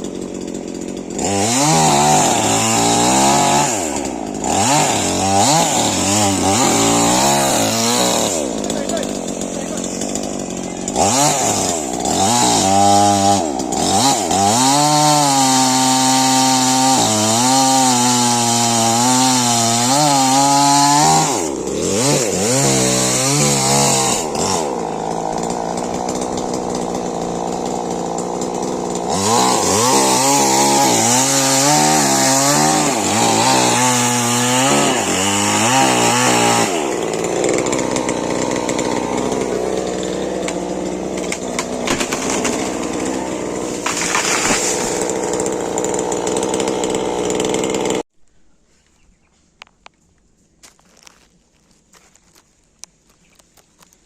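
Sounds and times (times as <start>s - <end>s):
chainsaw running hard: 0.0s - 48.0s.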